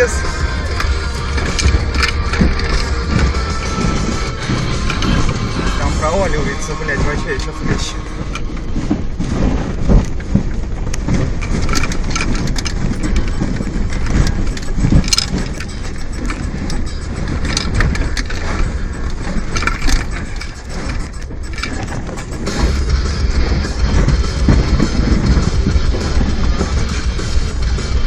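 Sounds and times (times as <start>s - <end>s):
body and suspension rattling: 0.0s - 28.0s
car engine running: 0.0s - 28.0s.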